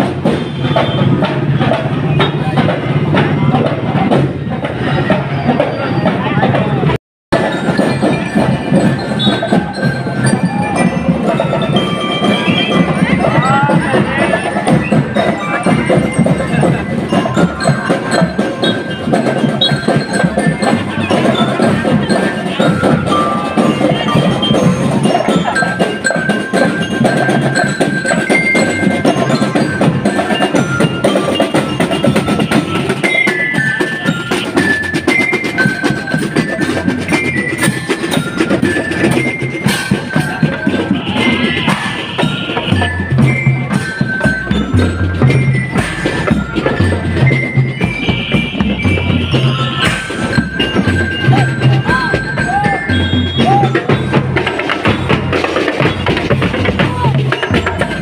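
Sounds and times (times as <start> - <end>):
snare and bass drums: 0.0 - 58.0
bell lyre melody: 7.4 - 58.0.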